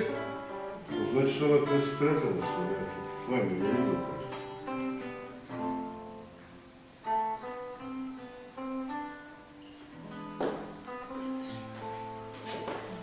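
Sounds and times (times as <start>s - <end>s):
acoustic guitar plucked notes: 0.0s - 13.0s.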